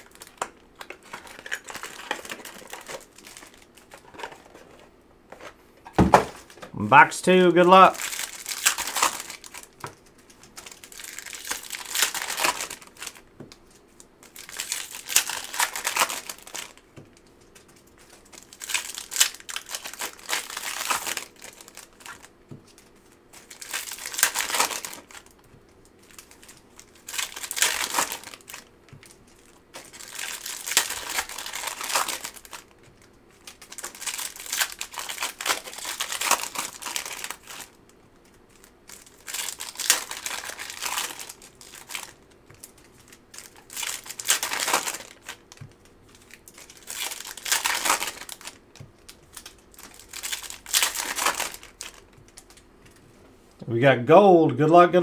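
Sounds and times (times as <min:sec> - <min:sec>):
foil wrappers crinkling: 0:00.0 - 0:05.5, 0:06.2 - 0:53.0.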